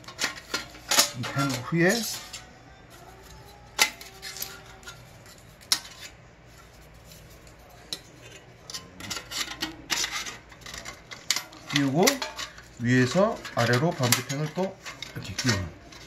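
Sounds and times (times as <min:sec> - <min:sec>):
metal panels clinking and rattling: 0:00.0 - 0:06.2, 0:07.8 - 0:16.0
metal scraping: 0:00.0 - 0:16.0.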